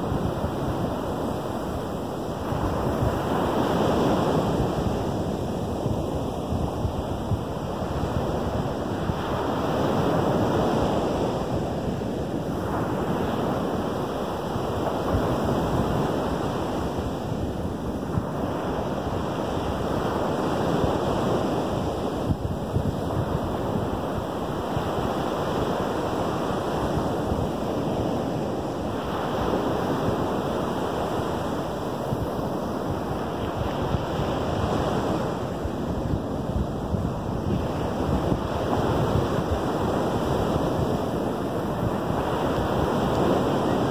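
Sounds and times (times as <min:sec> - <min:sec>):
small waves breaking on sand: 0:00.0 - 0:43.9
wind buffeting microphone: 0:00.0 - 0:43.9.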